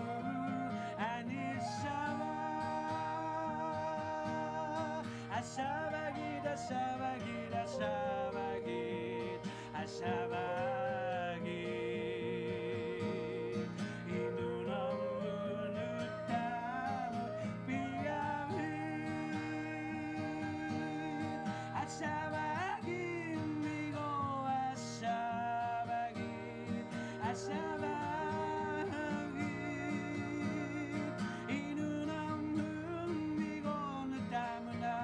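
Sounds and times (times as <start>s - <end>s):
man singing: 0.0s - 35.0s
strummed acoustic guitar: 0.0s - 35.0s
woodwind: 0.0s - 35.0s.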